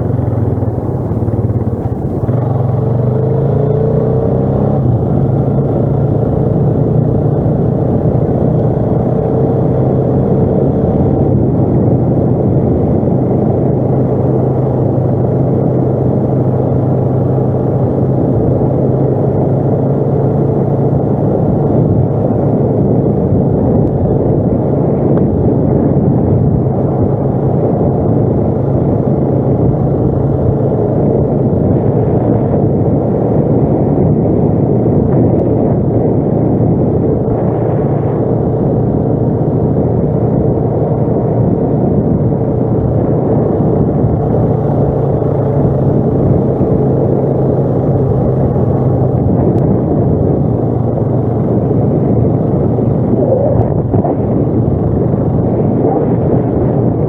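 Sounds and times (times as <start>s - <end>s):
atv engine droning: 0.0s - 57.0s.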